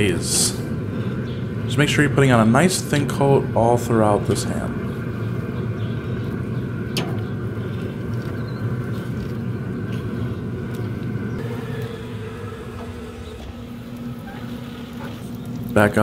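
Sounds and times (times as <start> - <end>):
fan humming with faint whine: 0.0 - 16.0.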